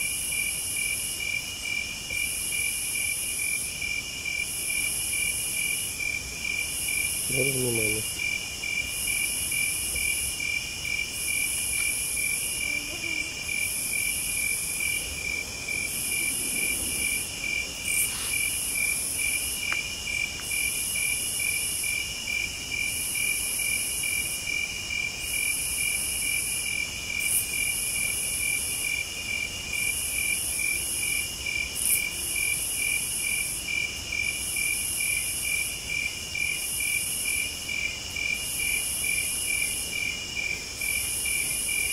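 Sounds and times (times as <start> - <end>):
high insect trill: 0.0 - 41.9
lower cricket chirp pulsing: 0.0 - 41.9.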